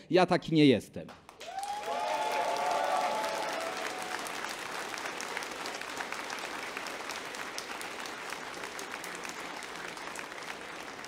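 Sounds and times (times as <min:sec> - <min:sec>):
large audience applauding: 0:01.3 - 0:11.0.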